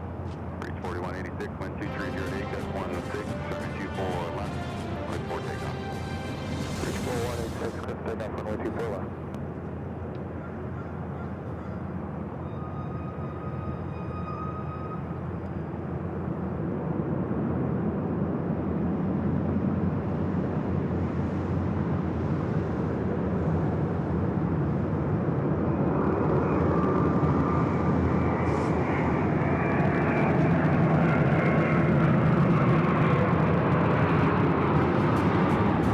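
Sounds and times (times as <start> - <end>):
jet engines at takeoff: 0.0 - 12.9, 15.1 - 35.9
high turbine whine: 0.0 - 35.9.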